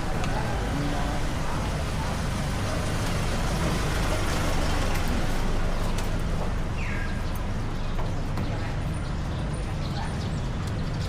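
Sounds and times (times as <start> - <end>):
street traffic: 0.0 - 11.0
vehicle engine rumbling: 0.0 - 11.0.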